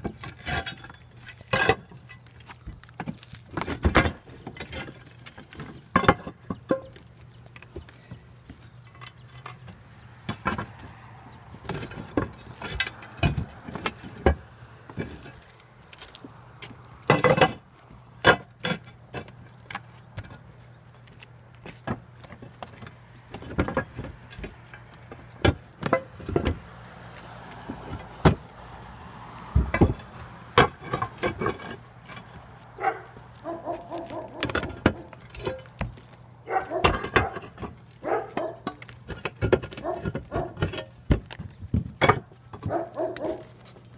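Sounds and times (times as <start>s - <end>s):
roof tiles clacking together: 0.0s - 26.6s, 29.5s - 32.9s, 33.6s - 43.9s.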